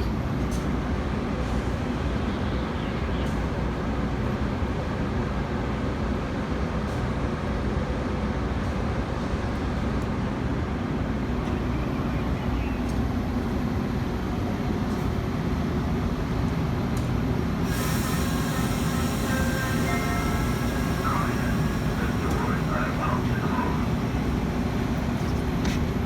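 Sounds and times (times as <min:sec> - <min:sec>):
low rumble of standing trains: 0:00.0 - 0:26.0.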